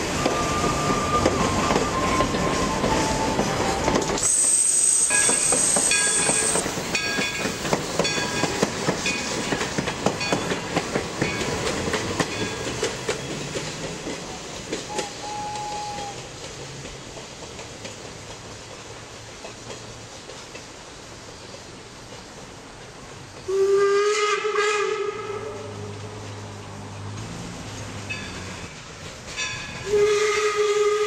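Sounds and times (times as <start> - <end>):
train wheels clacking over rail joints: 0.0 - 23.6, 25.9 - 31.0.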